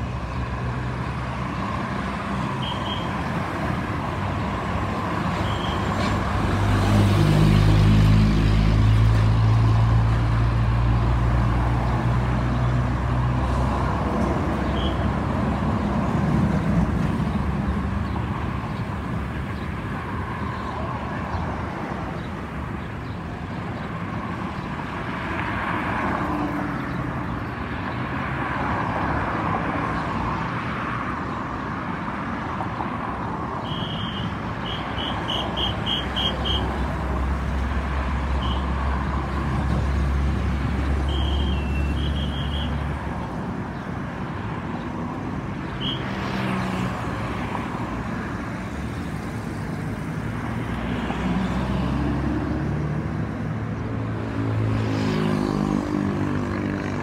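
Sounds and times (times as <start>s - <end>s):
roadside traffic: 0.0s - 57.0s.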